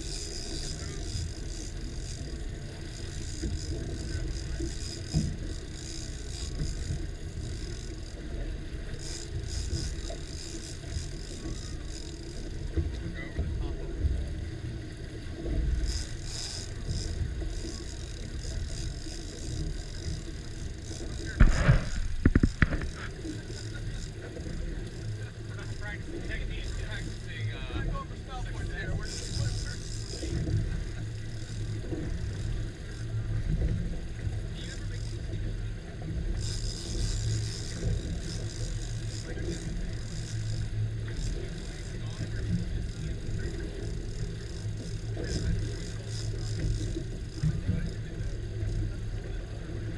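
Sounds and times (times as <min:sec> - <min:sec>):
outboard motors idling: 0:00.0 - 0:49.9
wind and water rumble: 0:00.0 - 0:49.9.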